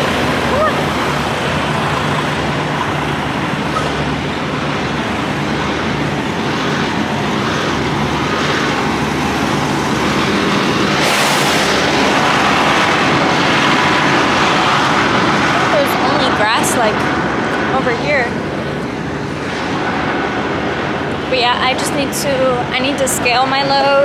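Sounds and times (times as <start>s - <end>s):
diesel truck engines idling: 0.0s - 24.0s
traffic: 0.0s - 24.0s
wind on microphone: 0.0s - 24.0s.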